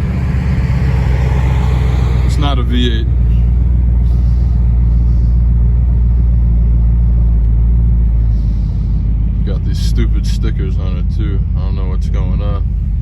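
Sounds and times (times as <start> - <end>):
car engine rumbling: 0.0 - 13.0
road noise: 0.0 - 13.0.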